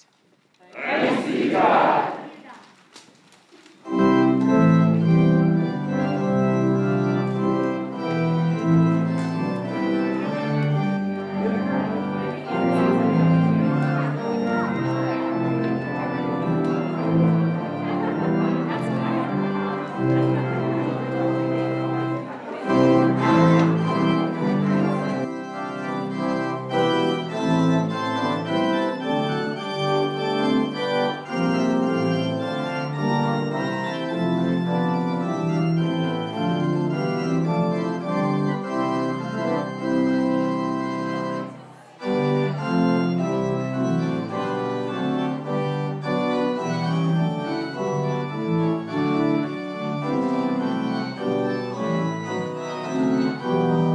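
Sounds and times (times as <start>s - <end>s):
church organ playing chords: 3.8s - 53.9s.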